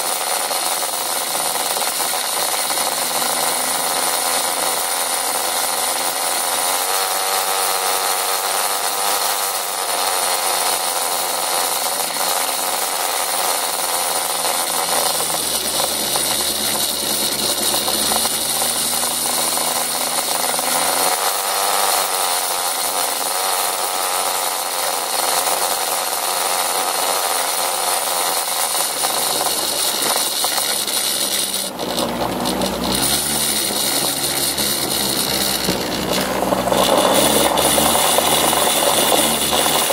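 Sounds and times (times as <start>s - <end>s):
motor scooter engine buzzing: 0.0s - 39.9s.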